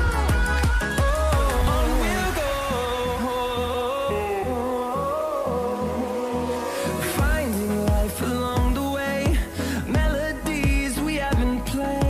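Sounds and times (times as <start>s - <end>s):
pop music with synth and beat: 0.0s - 12.0s
sliding bass notes: 0.0s - 12.0s.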